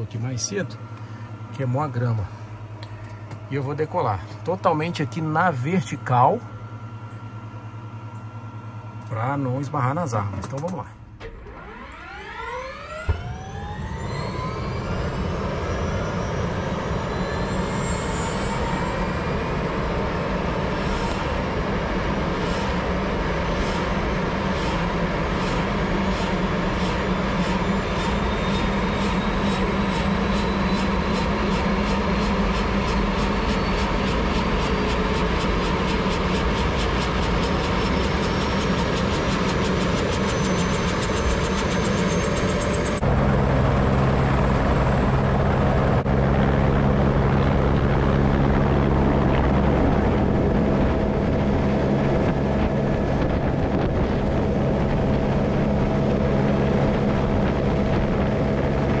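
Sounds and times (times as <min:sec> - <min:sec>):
helicopter rotor and turbine whine: 0:00.0 - 0:59.0.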